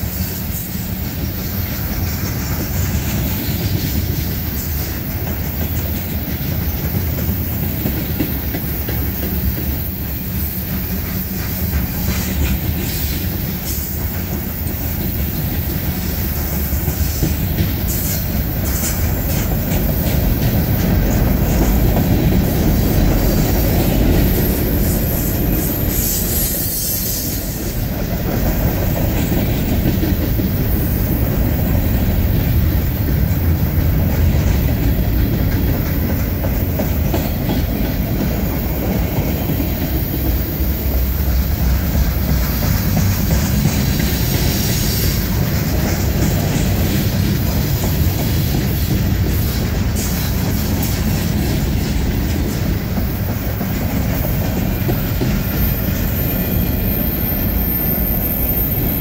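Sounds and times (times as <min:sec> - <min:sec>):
steel train wheels on rails: 0:00.0 - 0:59.0.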